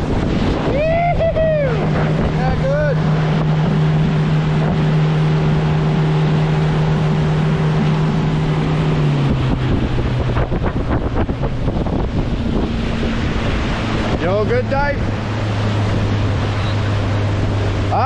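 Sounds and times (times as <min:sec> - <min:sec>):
boat engine running: 0:00.0 - 0:18.0
water rushing past hull: 0:00.0 - 0:18.0
wind on microphone: 0:00.0 - 0:18.0.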